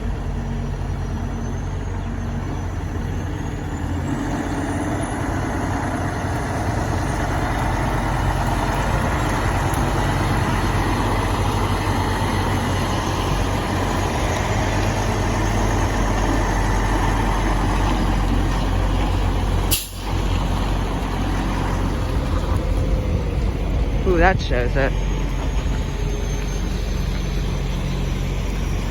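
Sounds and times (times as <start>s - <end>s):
road noise: 0.0s - 28.9s
truck engine rumbling: 0.0s - 28.9s.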